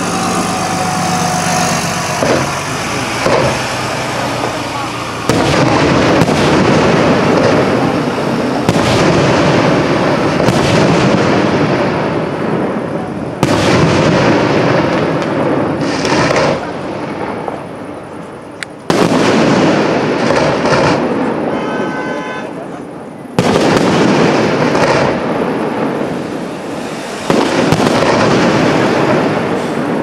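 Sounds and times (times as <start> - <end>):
fireworks bangs with rolling echo: 0.0 - 30.0.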